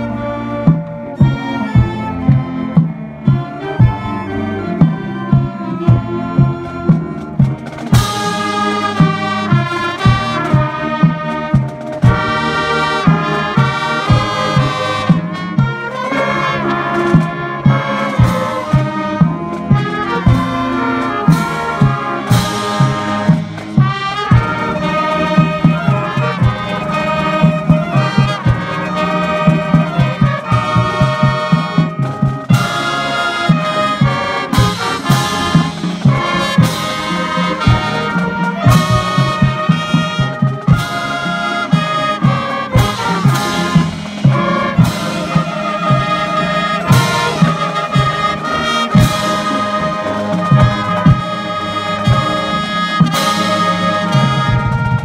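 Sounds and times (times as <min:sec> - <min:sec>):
marching band brass and woodwinds: 0:00.0 - 0:55.0
steady drum beat: 0:00.0 - 0:55.0.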